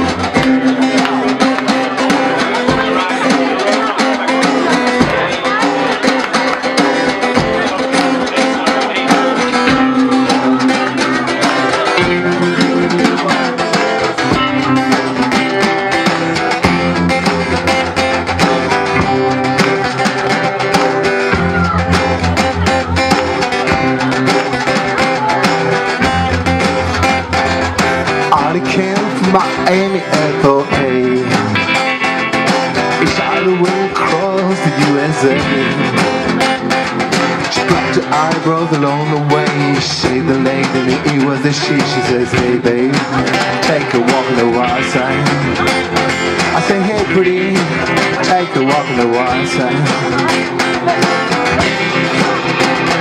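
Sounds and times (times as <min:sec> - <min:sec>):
acoustic guitar strumming: 0:00.0 - 0:53.0
drum beat: 0:00.0 - 0:53.0
electric guitar: 0:00.0 - 0:53.0.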